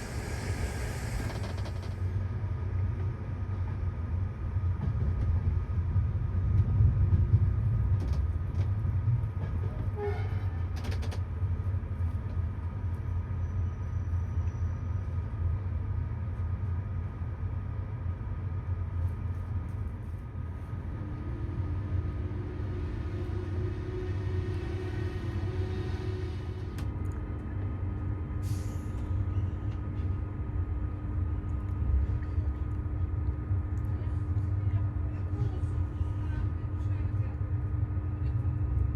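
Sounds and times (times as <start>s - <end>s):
train rumbling on rails: 0.0s - 38.9s.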